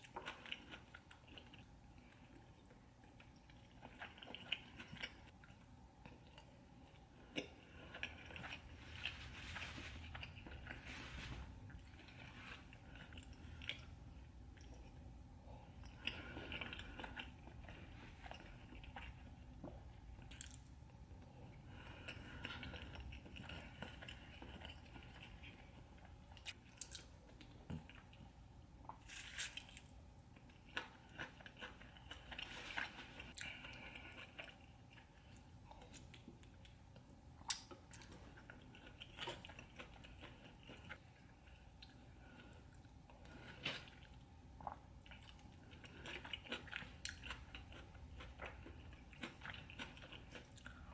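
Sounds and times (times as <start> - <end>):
person chewing with wet smacks: 0.0 - 50.9.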